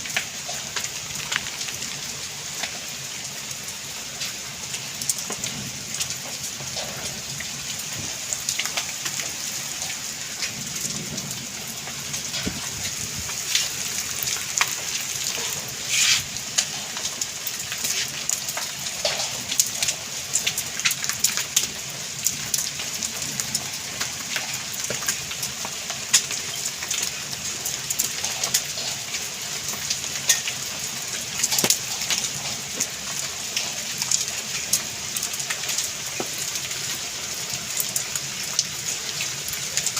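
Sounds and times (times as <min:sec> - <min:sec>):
heavy rain falling: 0:00.0 - 0:39.9
raindrops tapping a hard surface: 0:00.0 - 0:39.9.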